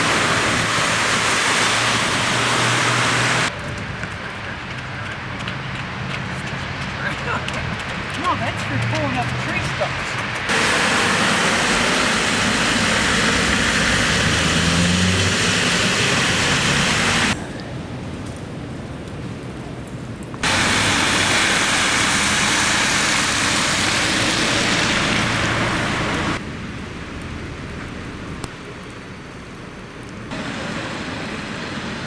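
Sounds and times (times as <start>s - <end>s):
traffic tyres and engines: 0.0s - 32.0s.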